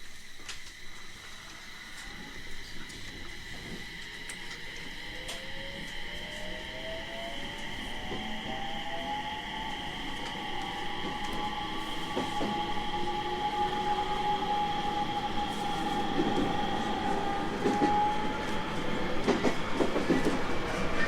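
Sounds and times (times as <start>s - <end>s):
electric train motor whine: 0.2s - 21.0s
wheel and track rumble: 0.7s - 21.0s.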